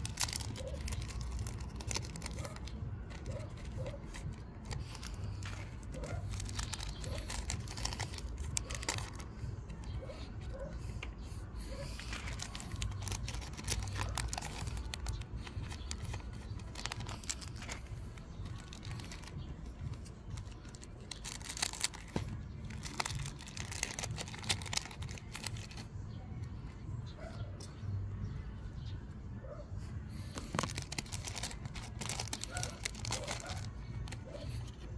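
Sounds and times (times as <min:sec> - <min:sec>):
foil wrappers crinkling and tearing: 0:00.0 - 0:10.0, 0:11.7 - 0:26.0, 0:30.2 - 0:34.9
clicks and rustles of handling: 0:00.0 - 0:26.5, 0:30.2 - 0:34.9.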